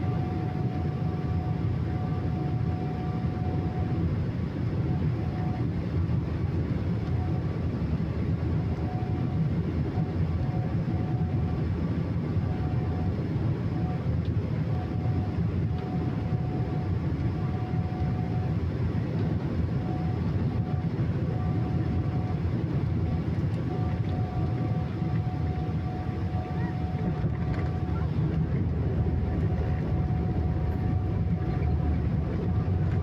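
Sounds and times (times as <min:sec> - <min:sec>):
faint engine whine: 0:00.0 - 0:33.0
jet engines rumbling: 0:00.0 - 0:33.0.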